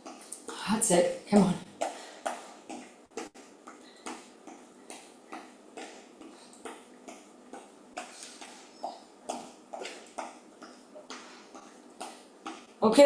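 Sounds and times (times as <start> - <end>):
footsteps marching in place: 1.3 - 12.8.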